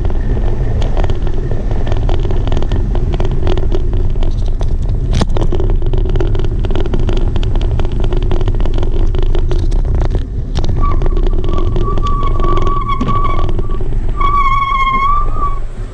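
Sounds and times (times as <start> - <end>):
wheels rolling on wooden planks: 0.0 - 15.9
wind on microphone: 0.0 - 15.9.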